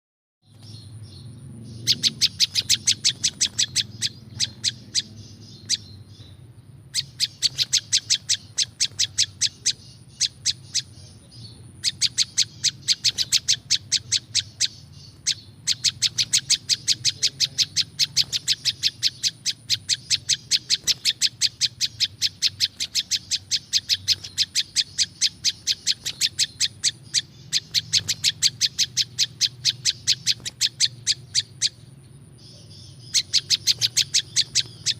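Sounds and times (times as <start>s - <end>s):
songbird rapid ticking calls: 0.4s - 34.9s.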